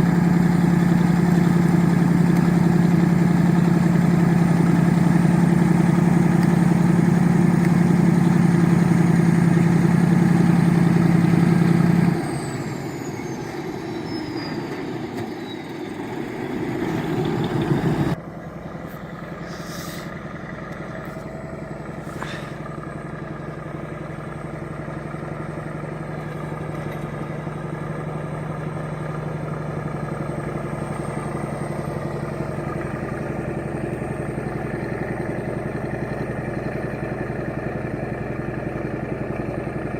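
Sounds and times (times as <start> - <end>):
bulldozer diesel engines running: 0.0 - 39.9.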